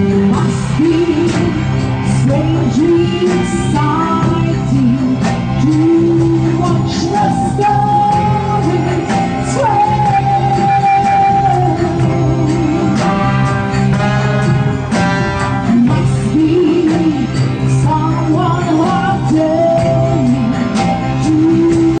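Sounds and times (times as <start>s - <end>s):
woman singing: 0.0s - 13.7s, 15.4s - 22.0s
electric guitar: 0.0s - 22.0s
keyboard: 0.0s - 22.0s.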